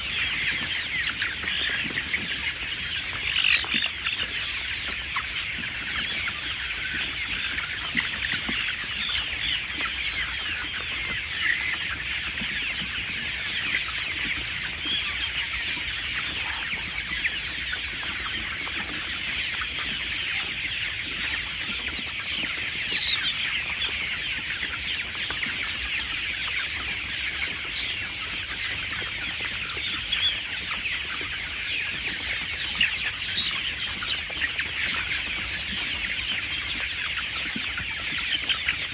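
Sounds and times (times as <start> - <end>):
chicks peeping and clucking: 0.0 - 38.9.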